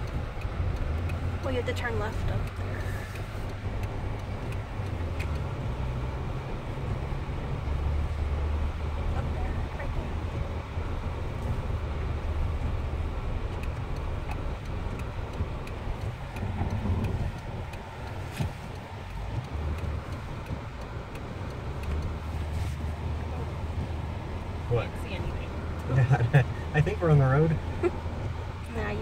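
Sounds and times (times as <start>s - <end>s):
engine and road noise rumble: 0.0s - 29.0s
faint ticks: 0.0s - 29.0s.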